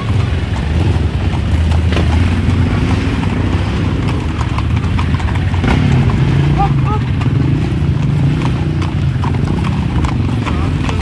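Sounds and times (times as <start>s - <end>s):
hooves clip-clopping on pavement: 0.0s - 11.0s.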